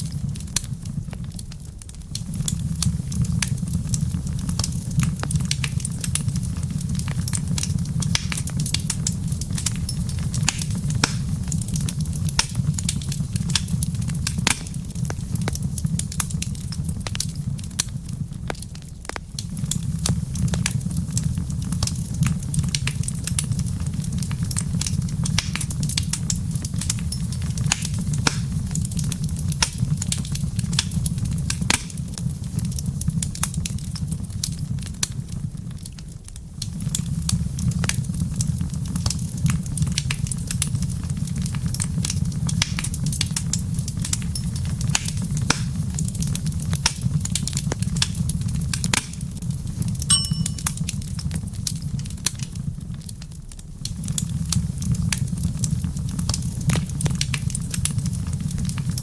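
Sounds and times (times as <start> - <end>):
low rumble of burning: 0.0 - 50.0, 50.6 - 59.0
wood fire popping and snapping: 0.0 - 59.0.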